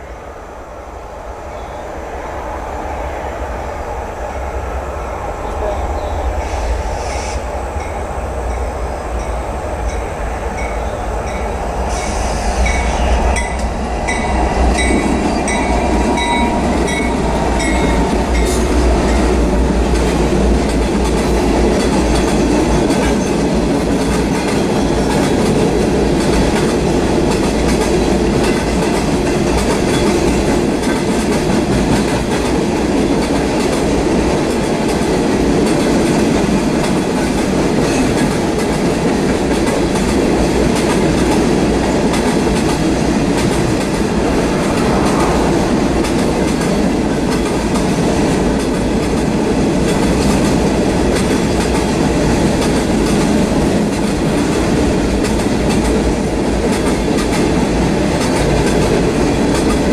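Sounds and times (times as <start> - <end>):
train wheels clickety-clack: 6.3 - 59.9.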